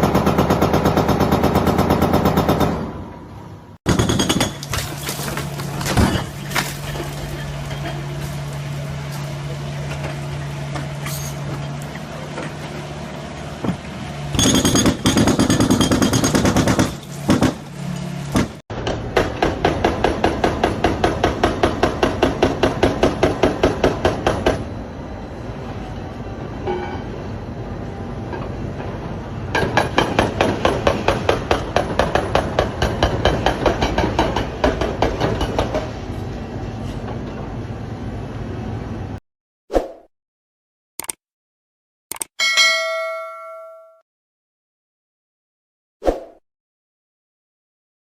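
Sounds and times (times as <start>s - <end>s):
construction machinery engine hum: 0.0s - 39.2s.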